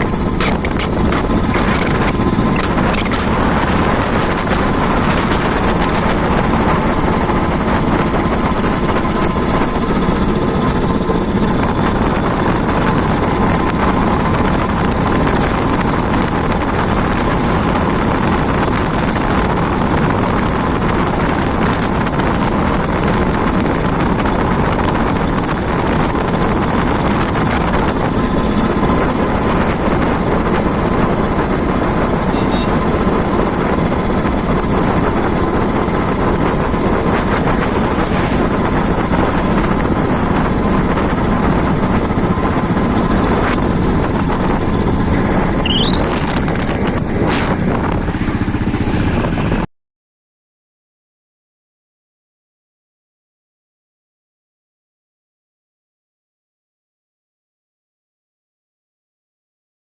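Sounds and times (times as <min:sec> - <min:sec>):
vehicle rattling and vibrating: 0:00.0 - 0:49.7.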